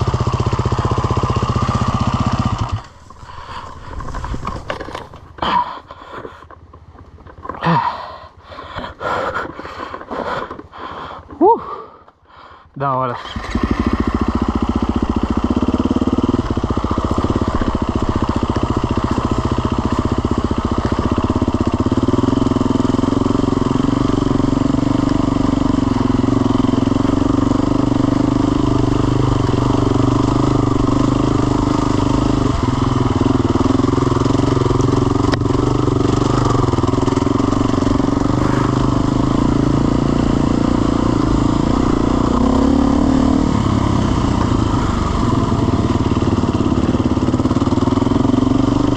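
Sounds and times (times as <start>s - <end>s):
motorcycle engine running: 0.0s - 12.2s, 13.0s - 48.9s.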